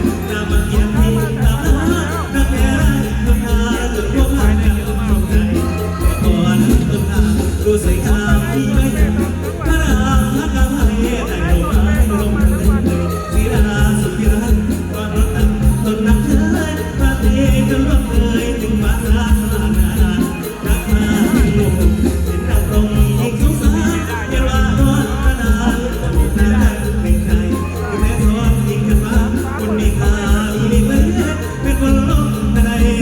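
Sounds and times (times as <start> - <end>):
driving drum beat: 0.0 - 33.0
heavy bass: 0.0 - 33.0
person singing: 0.0 - 33.0.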